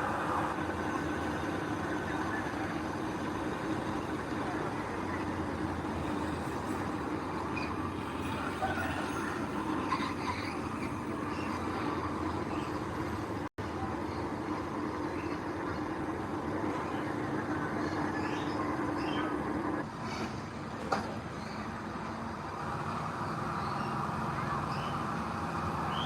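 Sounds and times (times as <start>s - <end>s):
diesel machinery engine drone: 0.0s - 26.0s.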